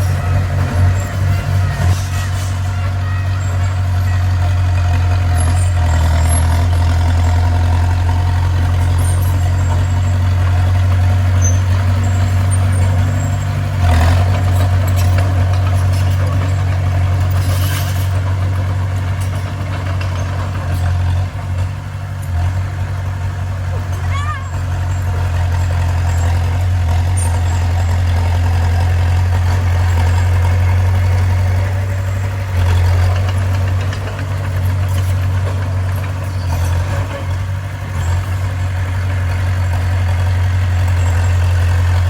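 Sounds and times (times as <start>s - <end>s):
bulldozer diesel engine running: 0.0s - 42.0s.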